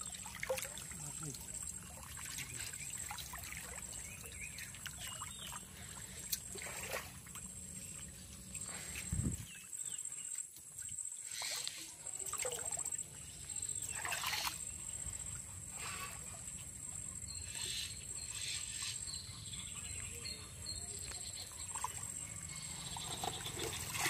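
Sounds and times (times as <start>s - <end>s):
muddy water splashing: 0.0s - 16.9s, 21.2s - 24.0s.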